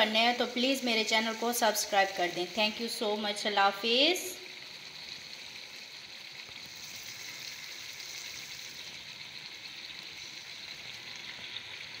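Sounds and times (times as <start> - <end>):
curry sizzling in a wok: 0.0 - 12.0.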